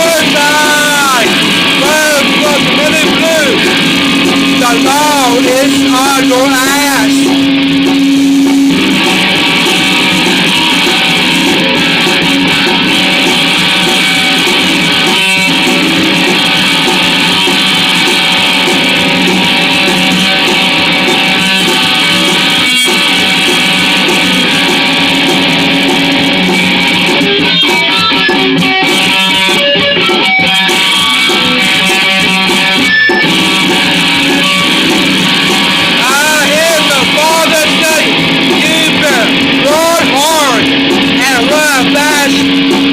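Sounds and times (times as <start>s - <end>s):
guitar-led band playing: 0.0s - 42.9s.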